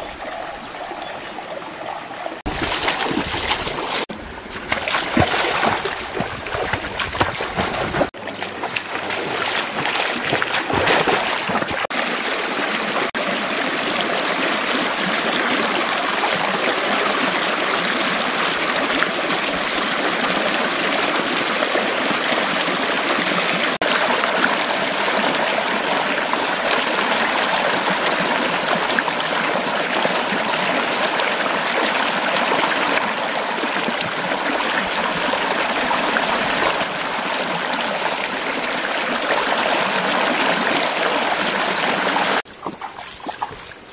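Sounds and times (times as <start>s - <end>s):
stream rushing over rocks: 0.0s - 43.9s
feet wading through water: 2.4s - 17.1s, 17.7s - 43.9s.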